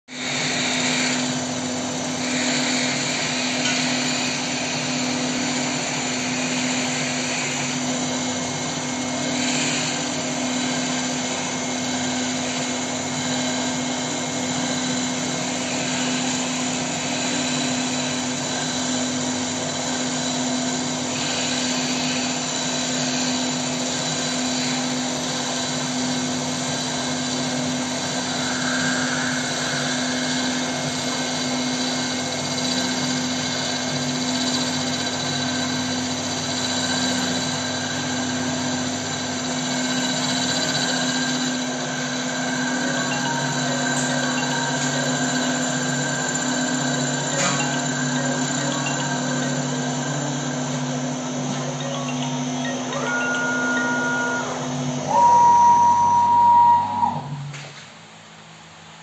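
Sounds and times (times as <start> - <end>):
lathe machine hum: 0.1 - 57.5.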